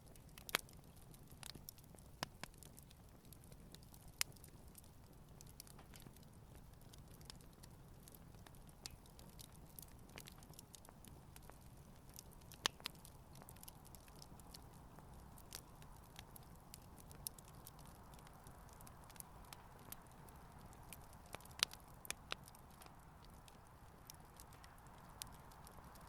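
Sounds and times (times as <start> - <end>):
low steady fire hiss: 0.0 - 26.0
wood crackling in campfire: 0.0 - 26.0.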